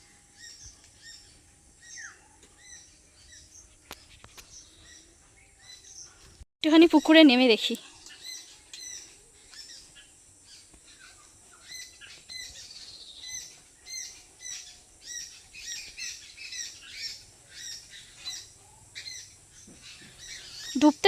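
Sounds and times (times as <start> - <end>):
birds calling short high calls: 0.0 - 21.0.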